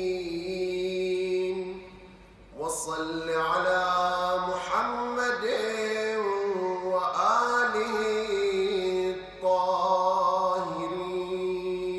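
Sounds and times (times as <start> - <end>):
man chanting melodically: 0.0 - 11.9.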